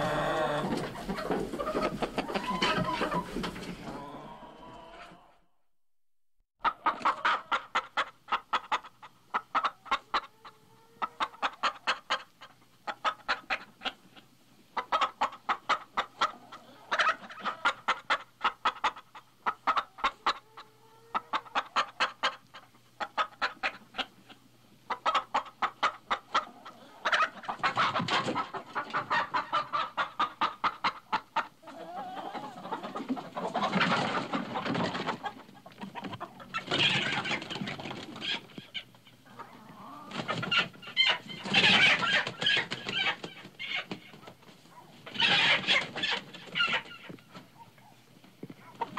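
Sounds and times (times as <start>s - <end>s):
hens clucking: 0.0s - 5.4s, 6.6s - 48.9s.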